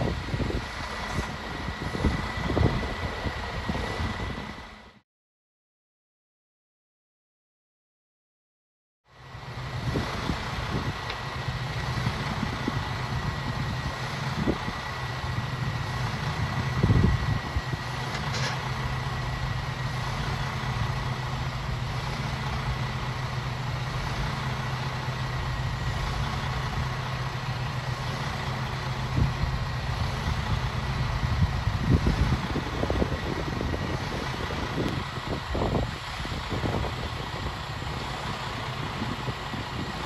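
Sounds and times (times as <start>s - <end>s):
truck engine humming: 0.0s - 5.0s, 9.1s - 40.0s.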